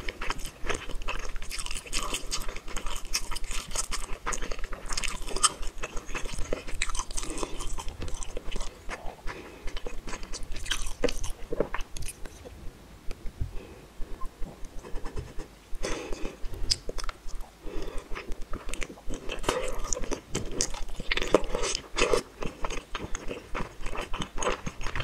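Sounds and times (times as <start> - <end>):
close chewing with wet clicks: 0.0 - 12.4, 16.6 - 25.0.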